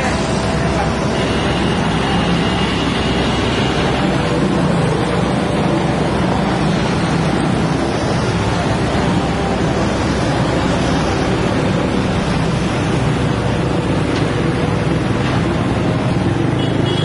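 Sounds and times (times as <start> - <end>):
excavator diesel engine running: 0.0 - 17.0
motorcycles passing: 0.0 - 17.0
roadside traffic: 0.0 - 17.0.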